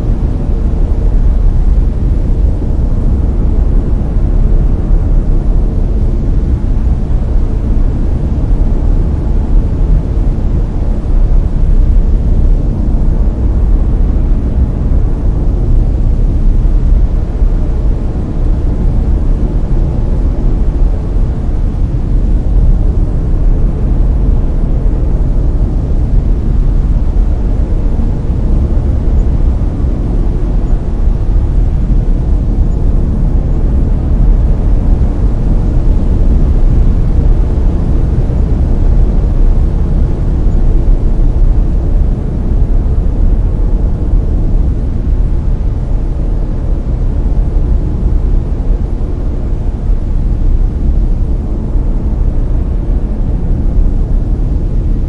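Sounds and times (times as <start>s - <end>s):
deep brown noise rumble: 0.0s - 55.0s.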